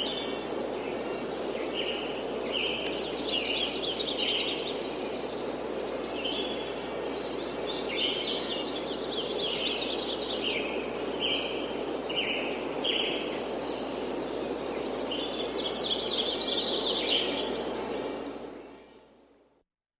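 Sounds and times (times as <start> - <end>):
small birds chirping and trilling: 0.0 - 19.2
light wind hiss: 0.0 - 19.5.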